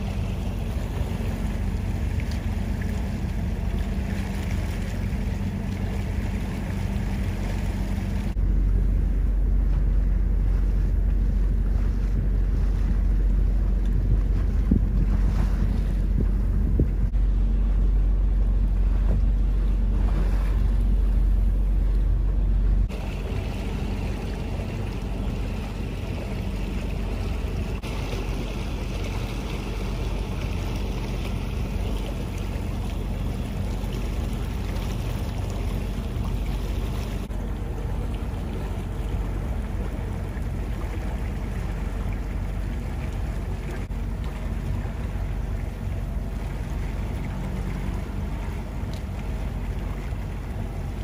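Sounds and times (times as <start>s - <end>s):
low hum: 0.0s - 51.0s
wind rumbling on microphone: 0.0s - 51.0s.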